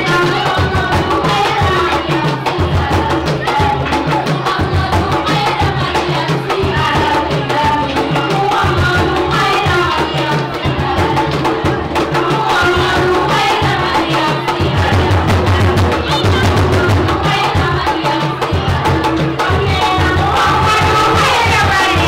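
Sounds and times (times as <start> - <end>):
percussion: 0.0 - 22.0
women chanting through loudspeakers: 0.0 - 22.0.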